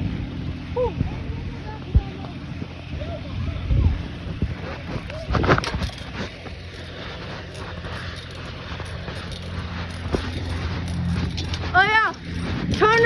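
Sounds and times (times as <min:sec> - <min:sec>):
bike tyres rumbling on dirt: 0:00.0 - 0:13.0
light rattles: 0:00.5 - 0:13.0.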